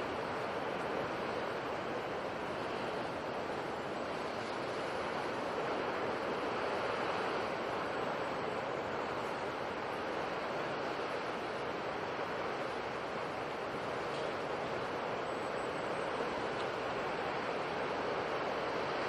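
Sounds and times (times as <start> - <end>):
sea waves and surf: 0.0 - 19.0.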